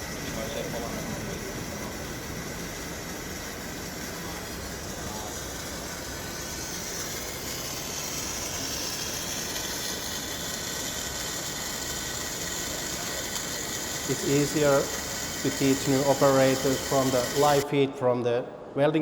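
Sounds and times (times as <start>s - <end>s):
exhibition hall background noise: 0.0s - 19.0s.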